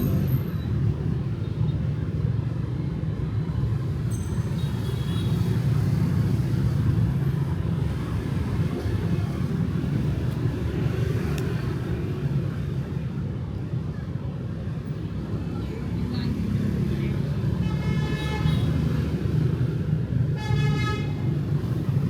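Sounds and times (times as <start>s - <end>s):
cars and motorbikes passing: 0.0s - 22.0s.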